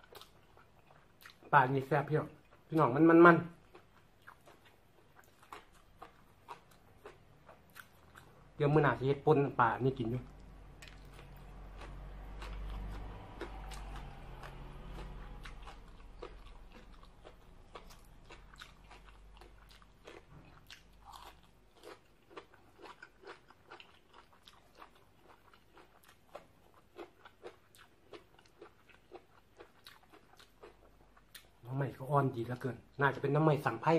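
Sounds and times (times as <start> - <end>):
chewing crisp vegetables: 0.0 - 33.8.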